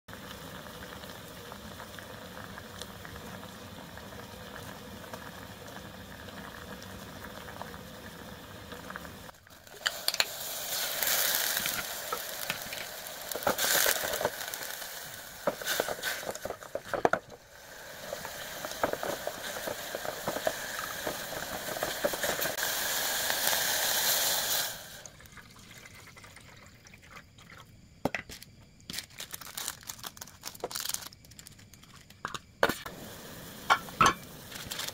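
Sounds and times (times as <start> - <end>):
onion sizzling in oil: 0.1 - 26.0, 28.9 - 34.9.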